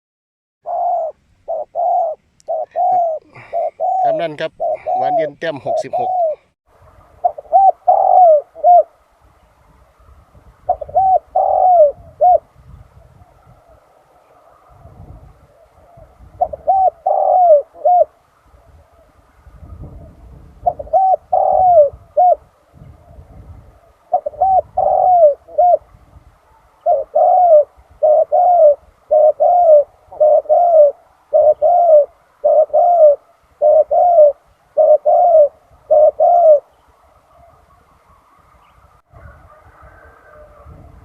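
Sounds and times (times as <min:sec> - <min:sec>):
dove cooing: 0:00.6 - 0:06.6, 0:07.2 - 0:09.0, 0:10.6 - 0:41.0.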